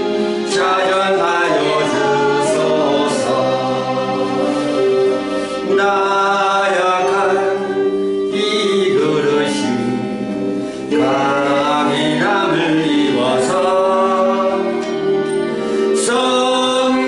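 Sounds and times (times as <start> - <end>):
instrumental accompaniment: 0.0 - 17.0
person singing gospel song: 0.0 - 17.0.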